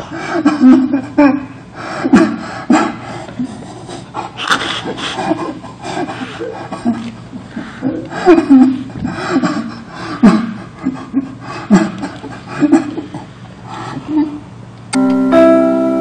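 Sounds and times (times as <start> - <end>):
man making breathy sounds: 0.0 - 14.4.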